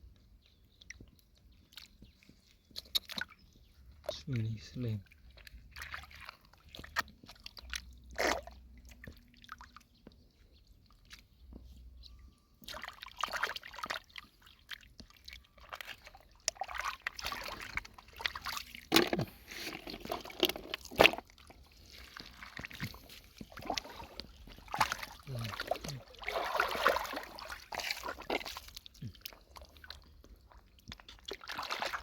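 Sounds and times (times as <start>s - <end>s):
water sloshing and splashing: 0.7s - 32.0s.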